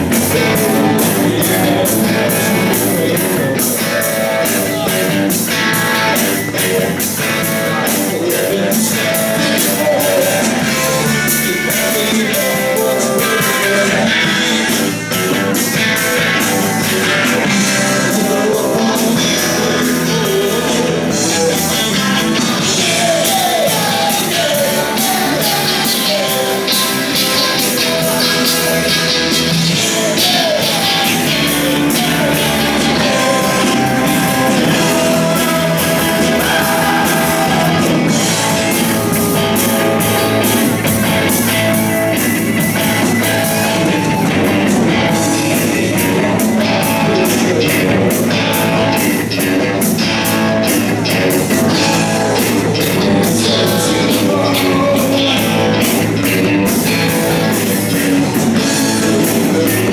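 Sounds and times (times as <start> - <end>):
bass guitar: 0.0 - 59.9
electric guitars: 0.0 - 59.9
man singing lead vocal: 0.0 - 59.9.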